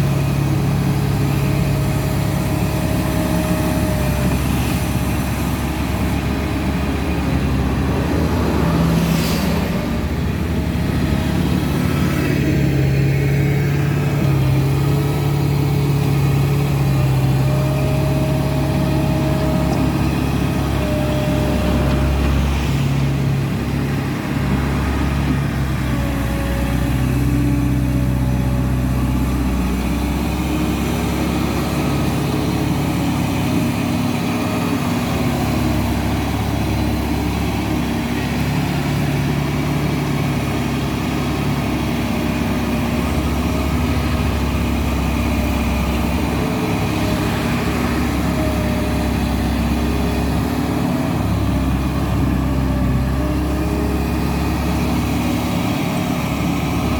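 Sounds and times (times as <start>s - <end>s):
diesel loader engine running: 0.0s - 56.9s.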